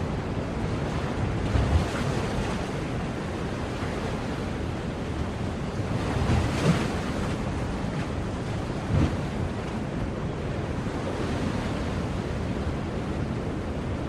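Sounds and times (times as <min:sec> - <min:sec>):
ocean waves washing onto shore: 0:00.0 - 0:14.0
wind rumbling on microphone: 0:00.0 - 0:14.0.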